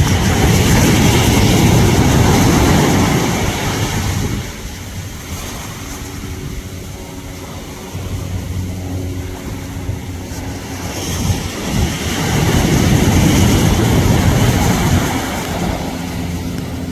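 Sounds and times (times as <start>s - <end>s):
loud rushing noise: 0.0s - 6.4s, 7.5s - 16.9s
low engine hum: 0.0s - 16.9s.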